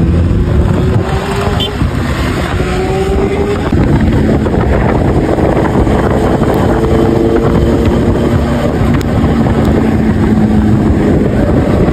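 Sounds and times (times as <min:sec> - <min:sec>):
motorcycle engine cruising: 0:00.0 - 0:11.9
wind buffeting microphone: 0:00.0 - 0:11.9.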